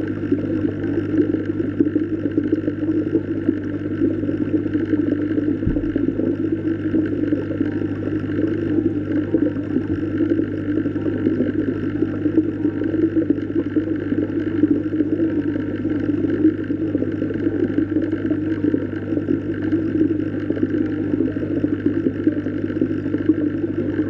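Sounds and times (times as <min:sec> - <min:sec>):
underwater hum and rushing: 0:00.0 - 0:24.0.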